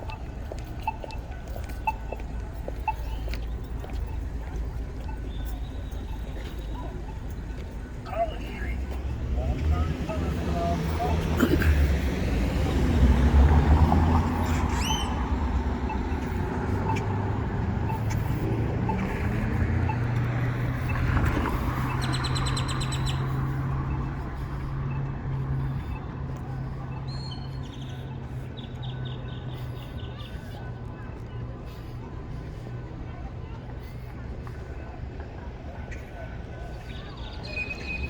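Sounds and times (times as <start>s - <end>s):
birds chirping: 0.0s - 33.2s
car engines rumbling past: 0.0s - 38.0s.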